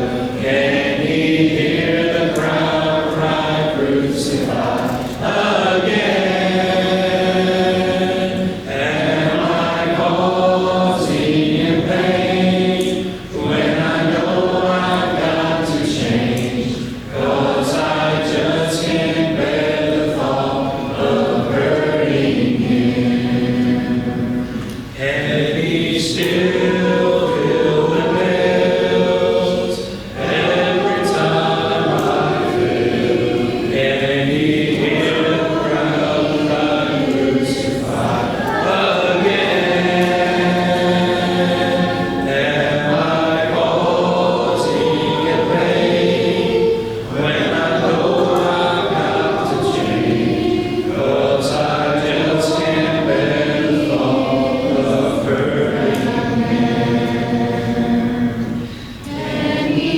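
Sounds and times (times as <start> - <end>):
congregation singing a hymn: 0.0 - 59.9.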